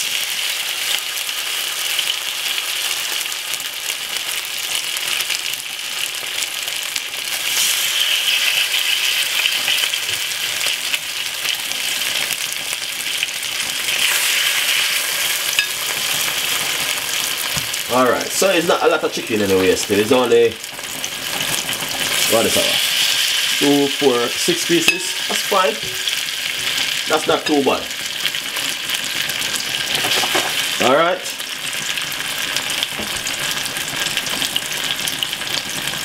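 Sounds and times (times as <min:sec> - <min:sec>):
chicken sizzling in oil: 0:00.0 - 0:36.0.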